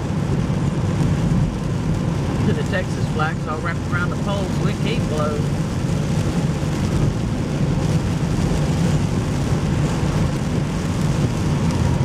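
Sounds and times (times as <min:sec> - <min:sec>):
car road and engine rumble: 0:00.0 - 0:12.0
rain and wet road hiss: 0:00.0 - 0:12.0.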